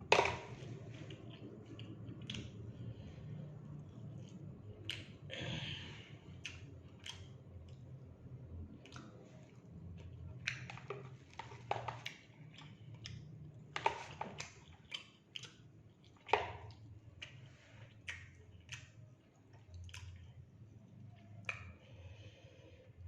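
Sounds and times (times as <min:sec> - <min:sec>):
faint low hum: 0:00.0 - 0:23.0
person chewing food: 0:00.0 - 0:23.0.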